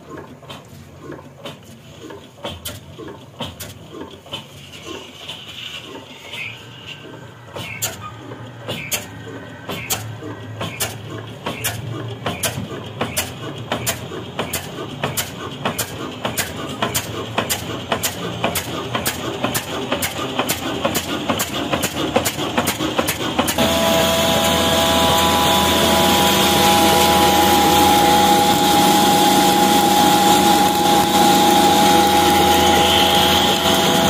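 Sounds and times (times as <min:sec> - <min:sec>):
stationary diesel engine exhaust beats: 0:00.0 - 0:34.0.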